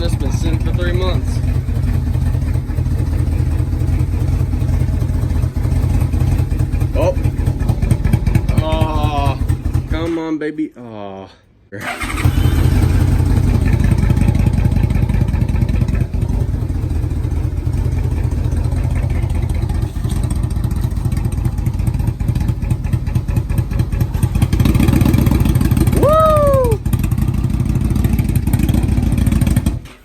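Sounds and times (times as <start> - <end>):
motorcycle engine idling: 0.0 - 10.1, 11.9 - 30.0.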